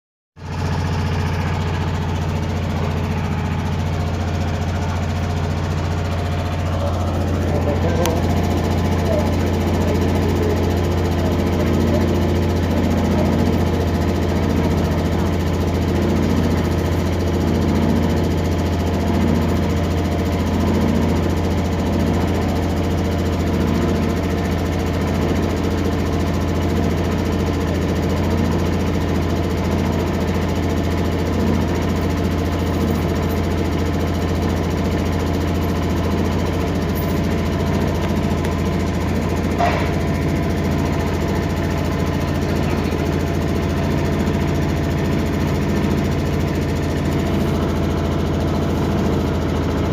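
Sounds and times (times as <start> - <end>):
boat engine droning: 0.4 - 49.9.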